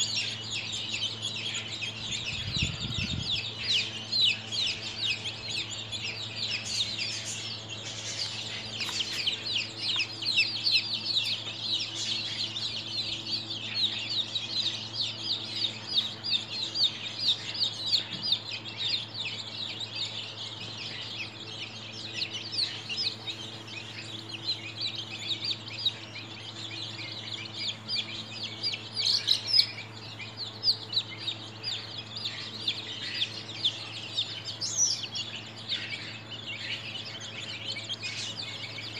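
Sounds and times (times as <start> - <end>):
chicks peeping: 0.0 - 38.9
steady low hum: 0.0 - 38.9.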